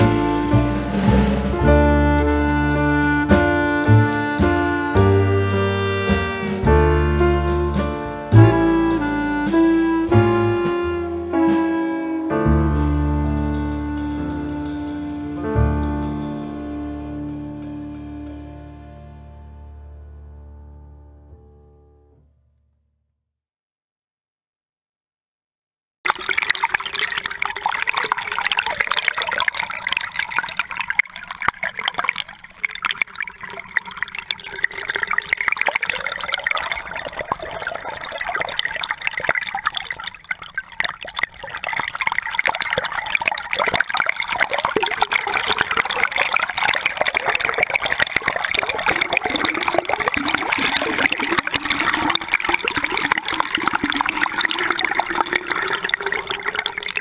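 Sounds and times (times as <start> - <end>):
muffled underwater river rushing: 0.0 - 19.4, 26.1 - 57.0.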